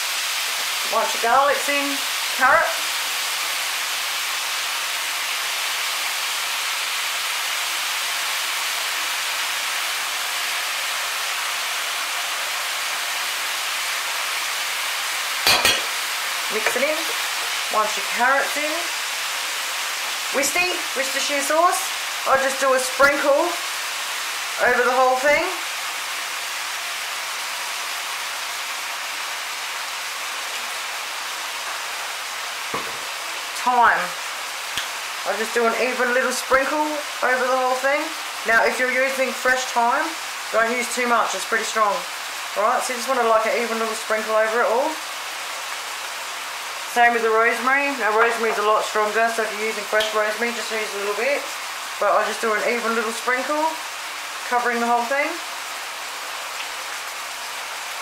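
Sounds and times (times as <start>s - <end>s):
meat sizzling in a frying pan: 0.0s - 58.0s.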